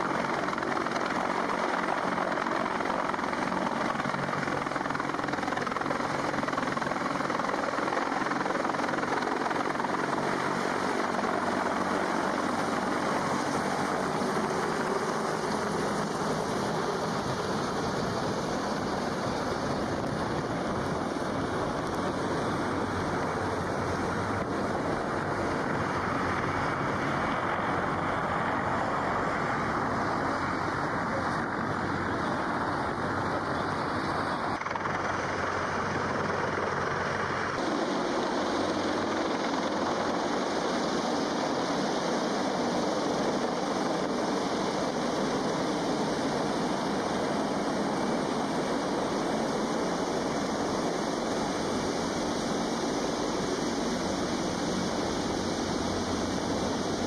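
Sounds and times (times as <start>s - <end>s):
helicopter rotor and engine: 0.0s - 57.0s
wind on microphone: 0.0s - 57.0s.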